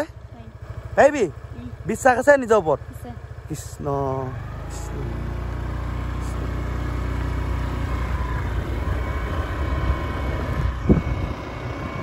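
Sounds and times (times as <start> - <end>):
motor scooter engine drone: 0.0 - 12.0.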